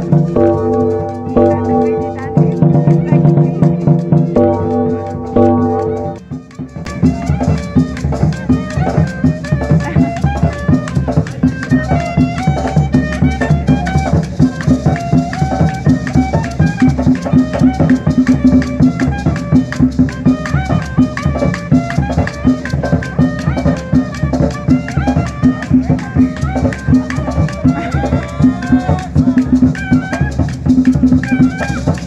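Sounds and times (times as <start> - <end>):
large drum beat: 0.0 - 32.0
wind instrument melody: 0.0 - 32.0.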